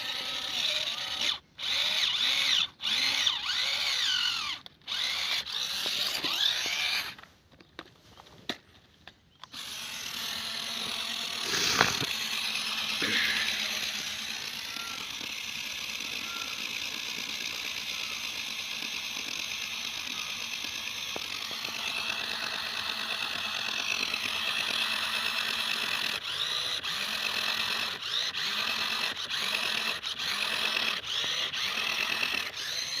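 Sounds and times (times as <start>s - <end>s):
remote control car motor whining: 0.0s - 7.3s, 9.4s - 33.0s.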